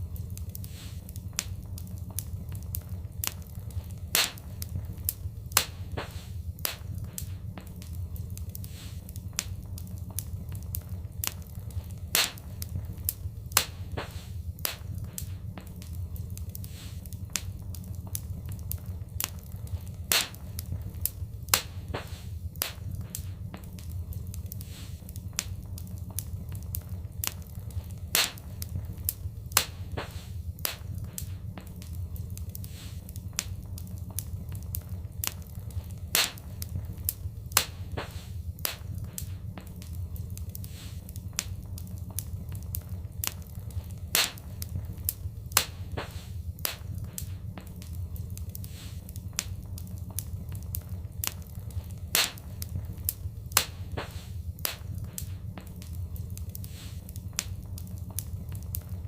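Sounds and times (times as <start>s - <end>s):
fireplace fire crackling: 0.0s - 59.0s
low rumble of fire: 0.0s - 59.0s.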